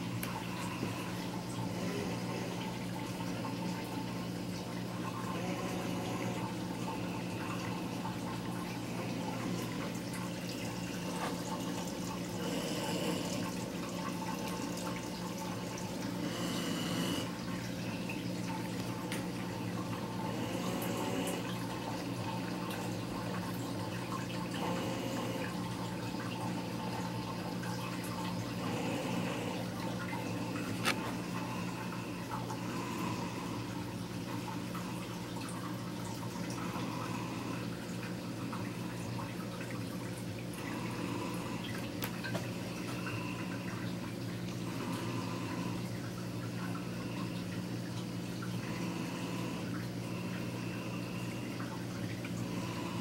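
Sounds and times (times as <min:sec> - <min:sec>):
water trickling and bubbling: 0:00.0 - 0:53.0.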